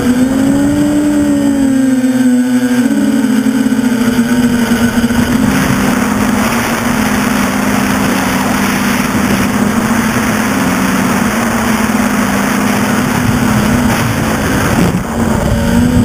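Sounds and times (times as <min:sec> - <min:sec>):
quadcopter motors humming: 0:00.0 - 0:16.0.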